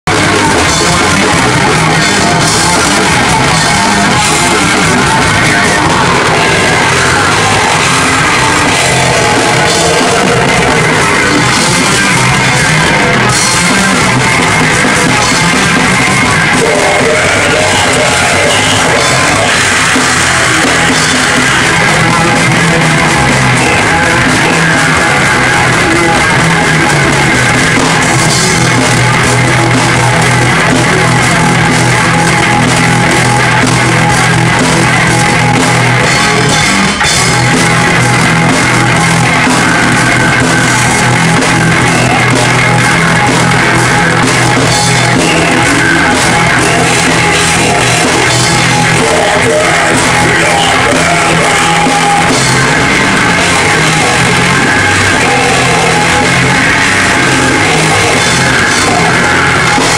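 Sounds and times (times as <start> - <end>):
metal band playing live: 0.0 - 59.9.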